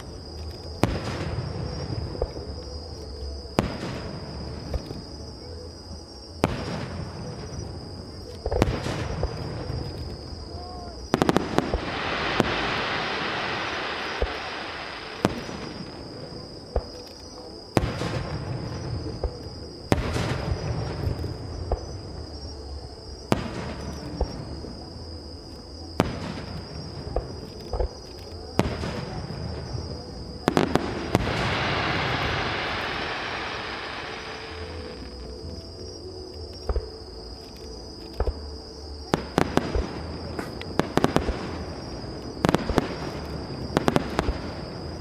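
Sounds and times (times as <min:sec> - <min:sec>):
crackling hiss of falling stars: 0:00.0 - 0:45.0.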